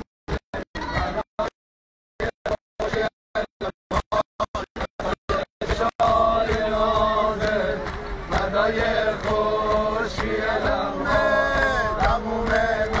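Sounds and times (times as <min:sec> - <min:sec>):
men chanting a lament: 0:02.2 - 0:13.0.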